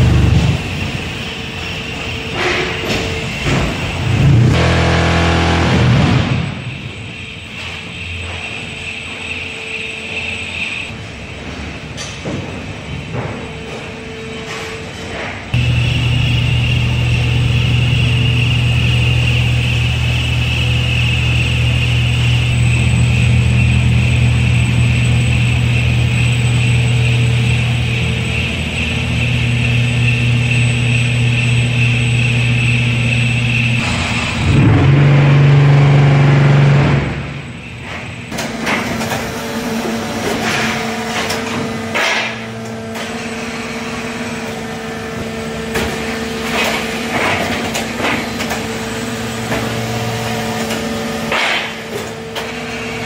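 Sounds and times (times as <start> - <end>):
machinery humming: 0.0 - 53.0.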